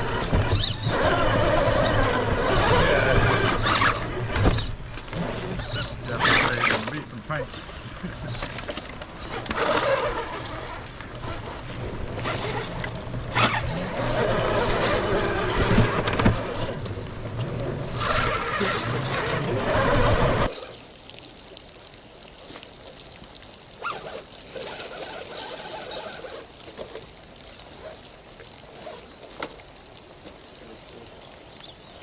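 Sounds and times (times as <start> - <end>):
small water splashes: 0.0 - 32.0
water pouring and trickling: 0.0 - 32.0.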